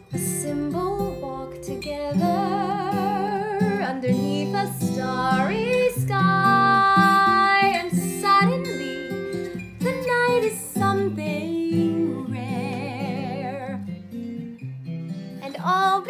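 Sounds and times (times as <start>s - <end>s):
acoustic guitar: 0.0s - 16.0s
woman singing with vibrato: 0.1s - 13.9s, 15.4s - 16.0s.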